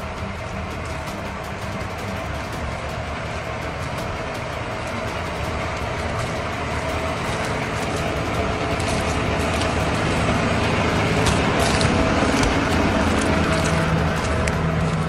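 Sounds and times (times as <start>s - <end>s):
plough clicking and crackling: 0.0s - 15.0s
tractor diesel engine under load: 0.0s - 15.0s.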